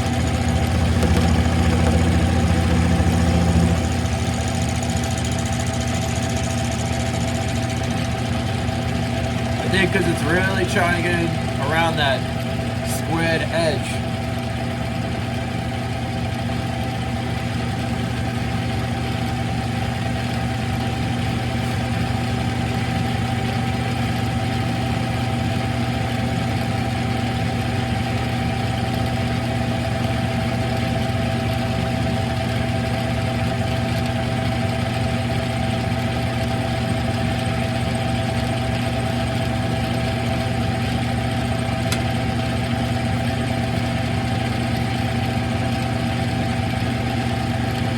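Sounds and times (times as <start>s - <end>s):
lathe motor and gear hum: 0.0s - 47.9s.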